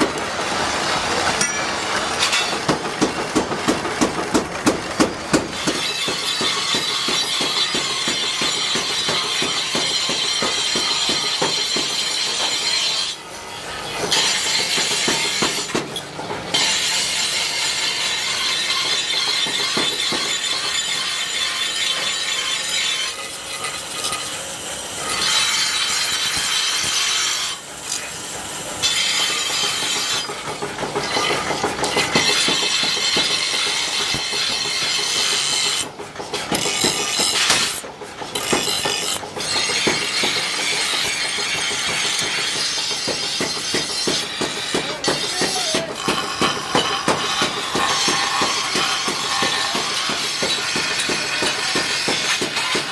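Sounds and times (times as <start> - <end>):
bench grinder grinding steel: 5.5 - 52.9.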